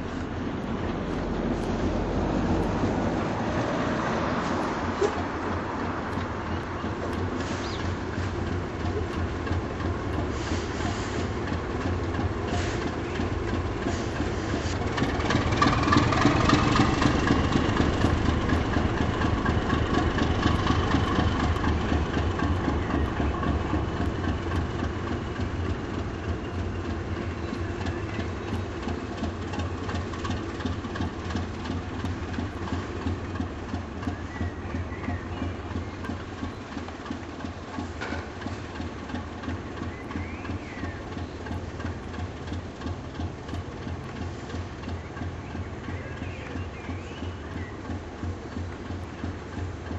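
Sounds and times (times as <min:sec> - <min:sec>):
diesel locomotive engine: 0:00.0 - 0:49.9
wheel clicks over rail joints: 0:04.5 - 0:49.9.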